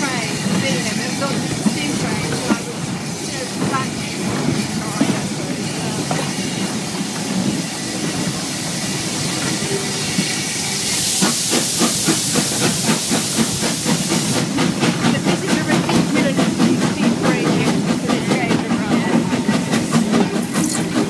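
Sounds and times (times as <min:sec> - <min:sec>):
steam hissing: 0:00.0 - 0:21.0
steam locomotive exhaust chuffing: 0:00.0 - 0:21.0.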